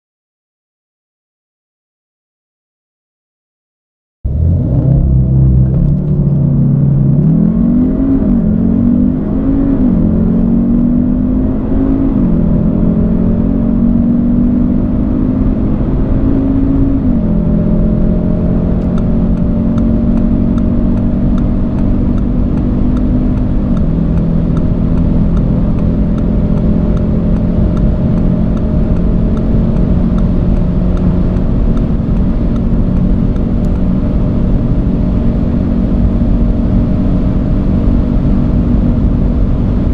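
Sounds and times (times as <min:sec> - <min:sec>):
car engine accelerating through gears: 0:04.3 - 0:39.9.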